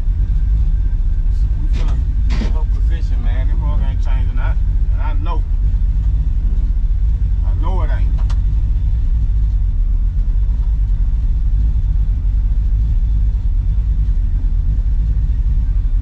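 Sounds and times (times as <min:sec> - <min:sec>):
pickup truck engine and road rumble: 0:00.0 - 0:16.0.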